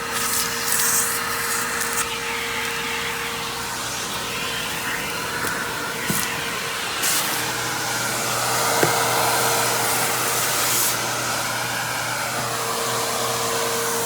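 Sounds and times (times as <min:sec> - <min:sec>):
vacuum cleaner motor running: 0:00.0 - 0:14.0.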